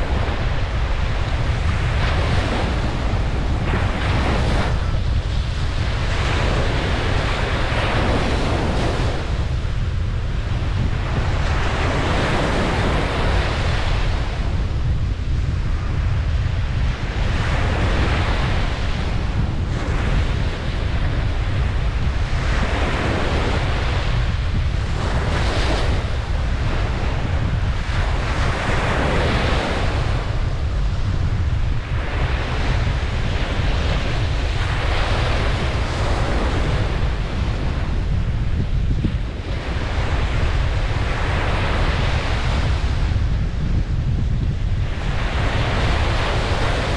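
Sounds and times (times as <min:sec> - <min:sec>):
ocean surf breaking: 0:00.0 - 0:46.9
wind rumble on microphone: 0:00.0 - 0:46.9.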